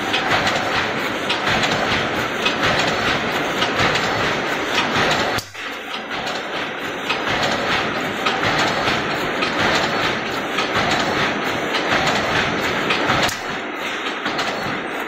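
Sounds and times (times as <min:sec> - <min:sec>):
welding machine rhythmic clatter: 0:00.0 - 0:15.0.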